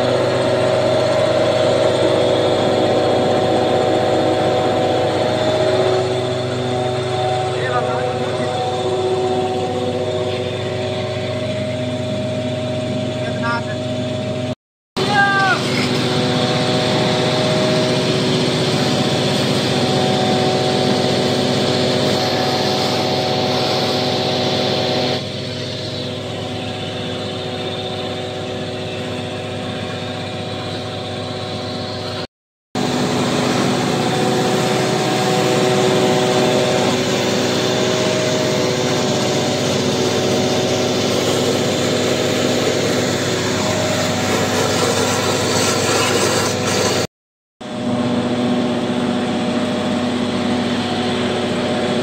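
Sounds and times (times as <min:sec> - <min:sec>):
truck engine running: 0:00.0 - 0:47.1, 0:47.7 - 0:52.0.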